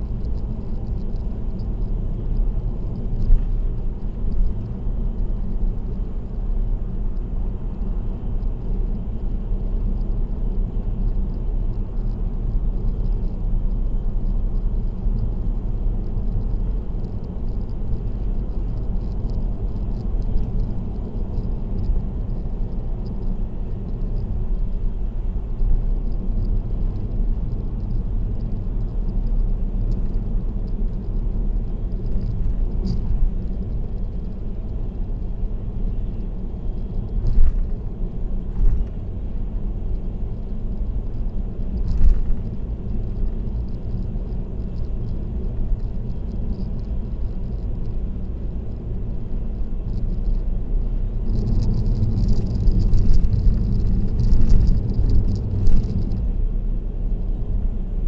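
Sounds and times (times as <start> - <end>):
rattle: 0.0 - 6.4, 10.8 - 24.8, 25.6 - 56.4
tyre and engine rumble: 0.0 - 58.0.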